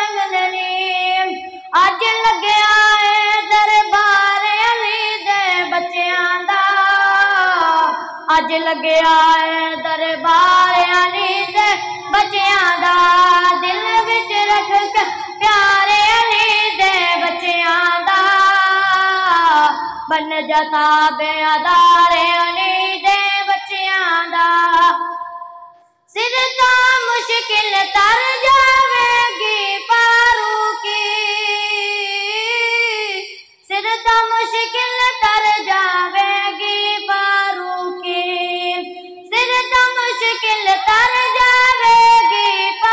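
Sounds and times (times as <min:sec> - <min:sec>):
boy singing into a microphone: 0:00.0 - 0:42.9.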